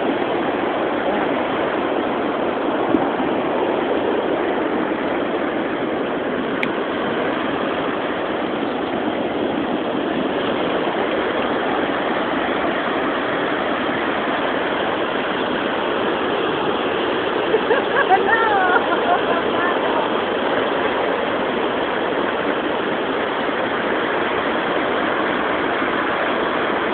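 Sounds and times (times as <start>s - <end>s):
ocean surf on beach: 0.0s - 26.9s.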